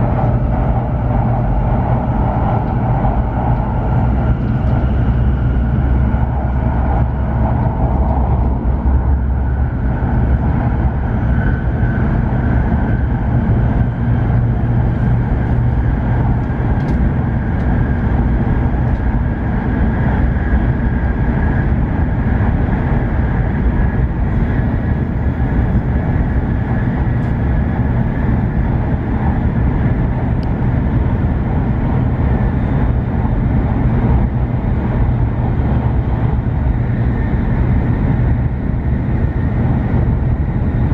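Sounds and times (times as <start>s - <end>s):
train rumble inside cabin: 0.0s - 40.9s.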